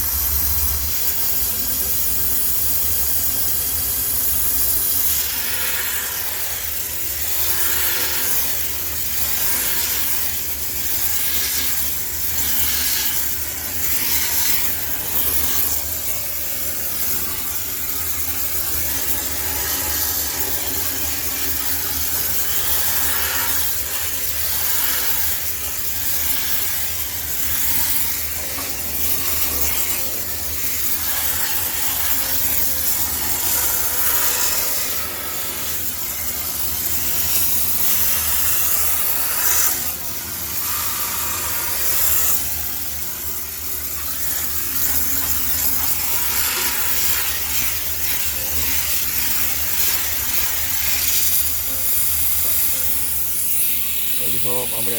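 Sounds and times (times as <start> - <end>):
rhythmic rubbing and scrubbing: 0.0 - 54.9
steam cleaner hissing: 0.0 - 54.9.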